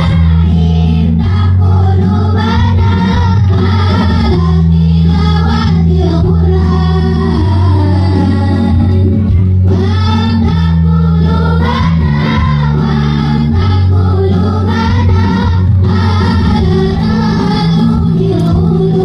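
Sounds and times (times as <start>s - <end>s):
woman singing into microphone: 0.0s - 11.6s, 13.4s - 19.0s
children's choir singing: 0.0s - 19.0s.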